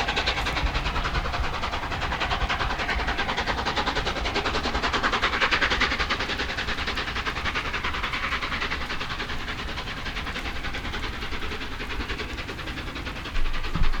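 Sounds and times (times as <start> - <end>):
steam locomotive exhaust beats: 0.0 - 14.0.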